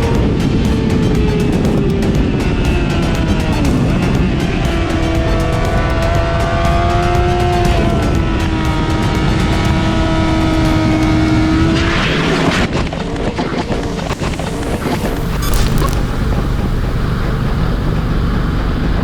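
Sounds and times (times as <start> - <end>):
motorcycle engine running: 0.0 - 11.6, 13.8 - 19.0.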